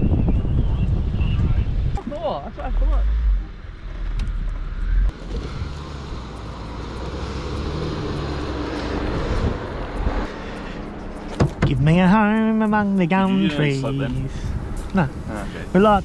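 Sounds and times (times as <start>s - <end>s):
vehicle engine rumbling: 1.8s - 16.0s.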